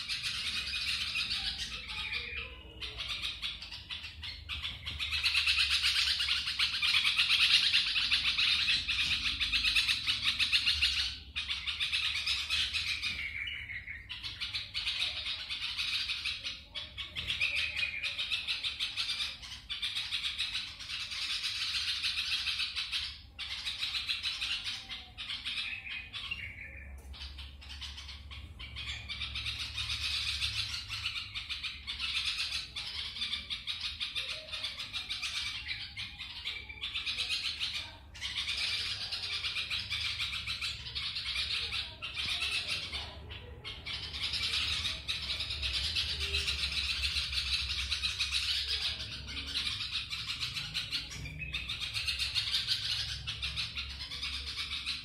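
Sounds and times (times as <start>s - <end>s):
young birds chirping: 0.0s - 55.0s.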